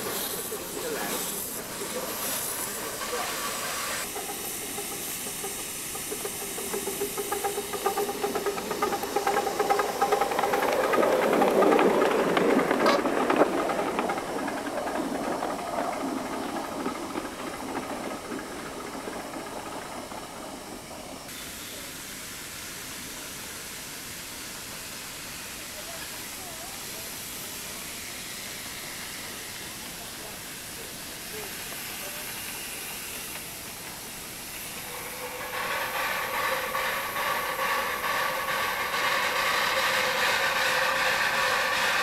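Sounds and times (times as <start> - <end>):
steam locomotive chuffing: 0.0 - 42.0
steam locomotive hissing: 0.0 - 42.0.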